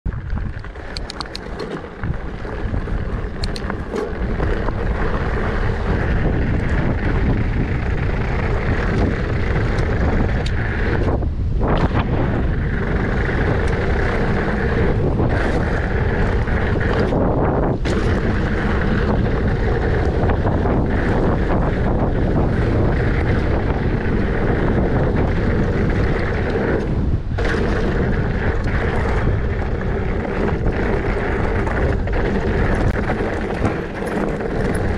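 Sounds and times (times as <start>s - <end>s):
bike tyres rolling on gravel: 0.0s - 34.9s
wind rushing over microphone: 0.0s - 34.9s.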